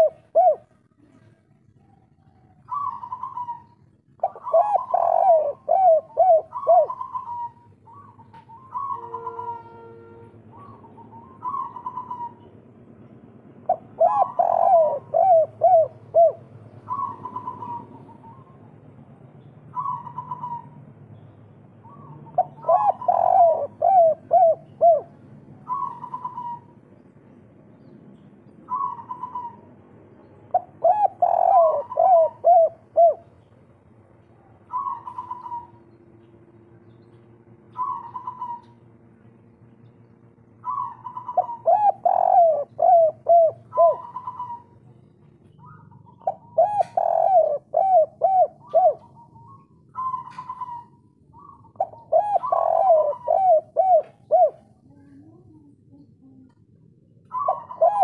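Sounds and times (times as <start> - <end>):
dove cooing: 0.0 - 12.6, 13.6 - 18.8, 19.7 - 20.8, 21.8 - 27.1, 28.6 - 29.8, 30.5 - 33.6, 34.6 - 36.0, 36.9 - 39.0, 40.6 - 58.0.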